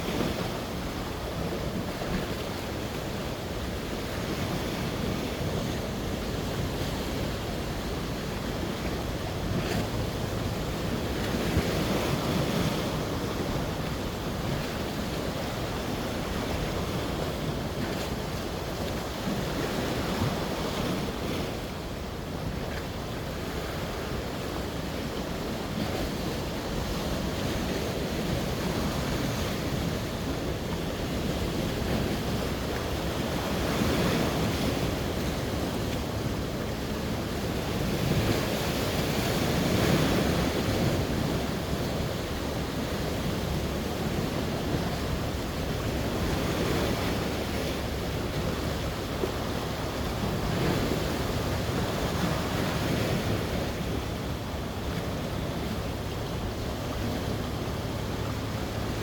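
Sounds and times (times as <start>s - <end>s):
sea waves washing ashore: 0.0s - 59.0s
wind rumbling on microphone: 0.0s - 59.0s.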